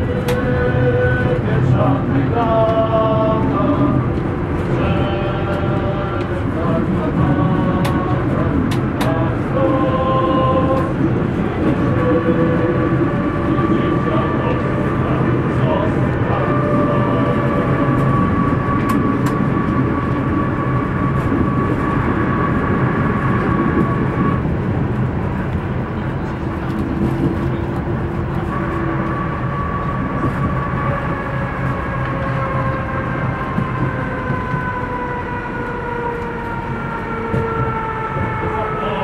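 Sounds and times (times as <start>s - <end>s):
tram wheels rumbling on rails: 0.0s - 39.0s.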